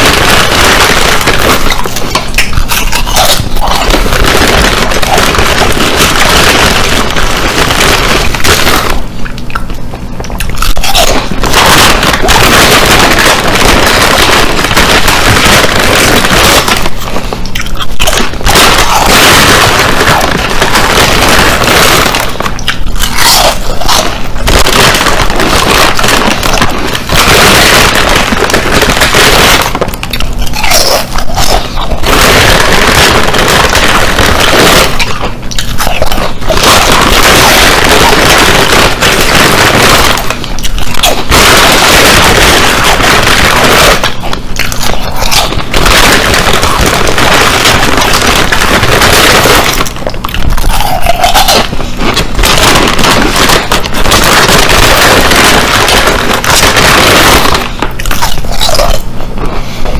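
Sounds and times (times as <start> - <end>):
chips being chewed: 0.0 - 59.9
plastic chip bag crinkling: 0.0 - 59.9.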